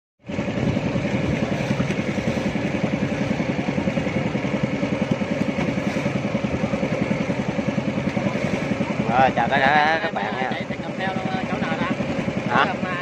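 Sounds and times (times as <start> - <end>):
small boat engine throbbing: 0.2 - 13.0.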